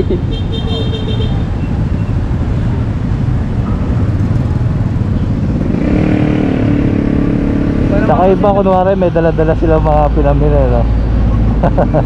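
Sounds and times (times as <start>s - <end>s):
street traffic rumble: 0.0s - 12.0s
vehicle engine close by: 0.0s - 12.0s.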